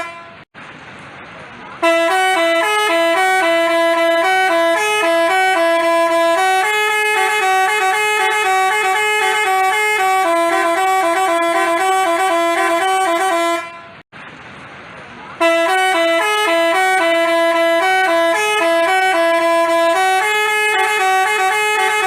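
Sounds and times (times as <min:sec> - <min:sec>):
multi-tone bus horn melody: 0:00.0 - 0:00.5, 0:01.8 - 0:14.1, 0:15.4 - 0:22.0.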